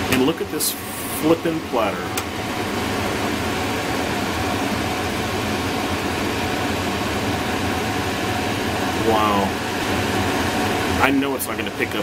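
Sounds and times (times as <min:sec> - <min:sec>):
fan rushing air: 0:00.0 - 0:12.0.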